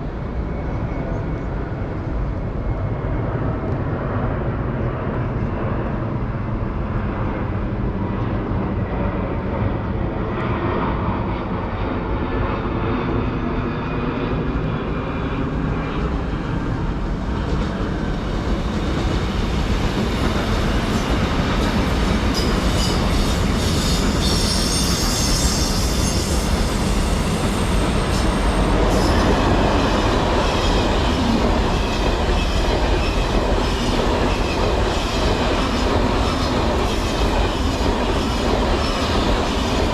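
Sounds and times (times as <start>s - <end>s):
train running on rails: 0.0s - 39.9s.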